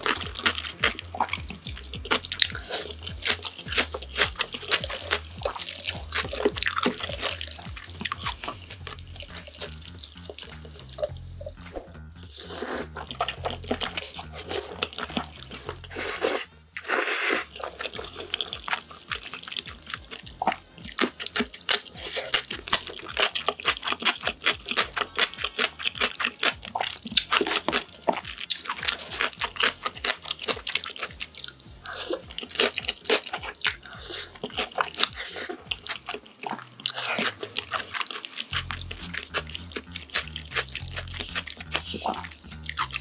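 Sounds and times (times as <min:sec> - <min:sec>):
slurping noodles: 0:00.0 - 0:43.0
wet chewing and smacking: 0:00.0 - 0:43.0.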